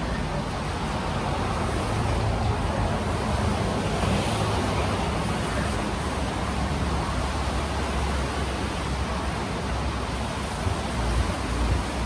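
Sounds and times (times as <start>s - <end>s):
tyres rushing on wet road: 0.0s - 12.0s.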